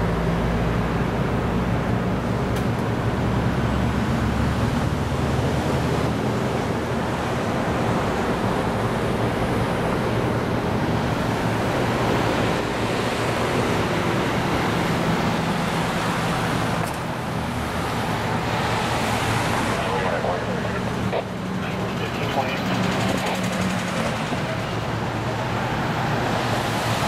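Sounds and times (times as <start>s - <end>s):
low road traffic rumble: 0.0s - 27.0s.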